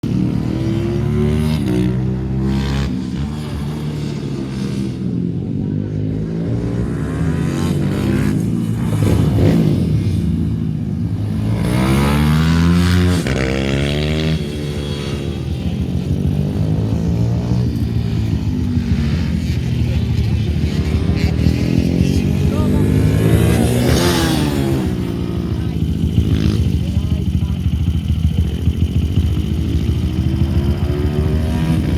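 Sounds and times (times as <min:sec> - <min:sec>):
motorbike engines revving: 0:00.0 - 0:31.9.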